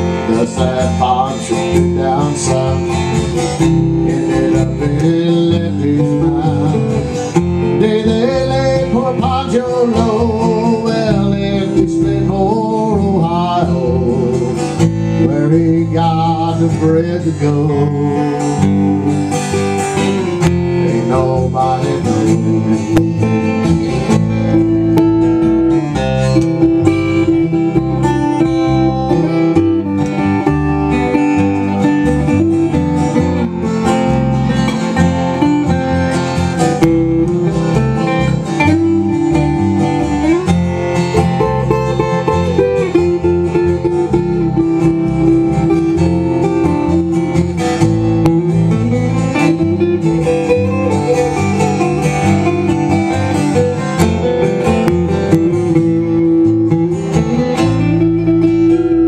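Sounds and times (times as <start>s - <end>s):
acoustic guitars strumming: 0.0s - 59.0s
lead guitar melody: 0.0s - 59.0s
upright bass: 0.0s - 59.0s.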